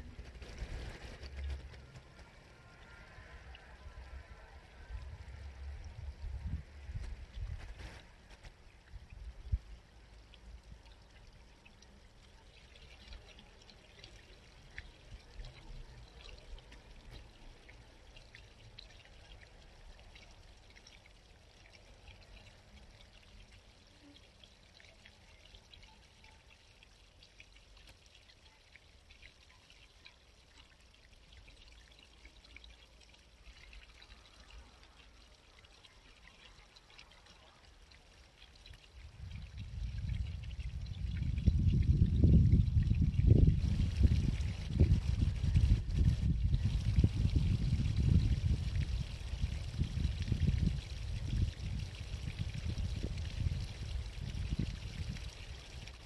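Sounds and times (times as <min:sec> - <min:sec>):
low uneven rumble: 0:00.0 - 0:27.8, 0:30.6 - 0:56.0
brook babbling: 0:00.0 - 0:56.0.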